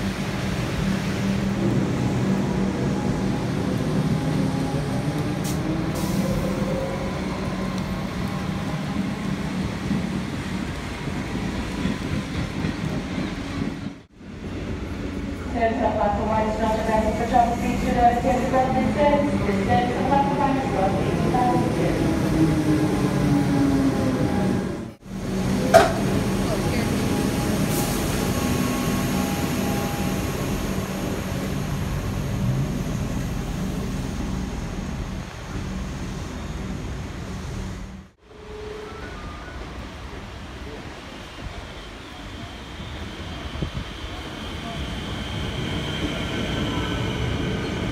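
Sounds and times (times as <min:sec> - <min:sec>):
electric train rumbling: 0:00.0 - 0:47.9.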